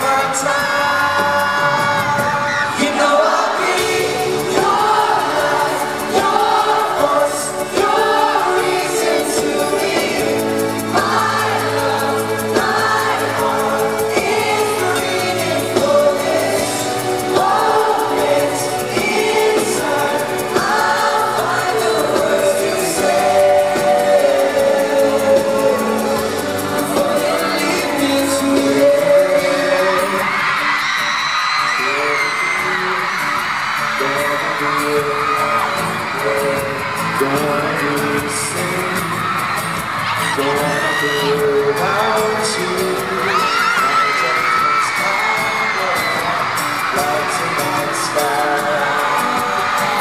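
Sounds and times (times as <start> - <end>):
keyboard-led band backing: 0.0 - 50.0
male voices singing in harmony: 0.0 - 50.0.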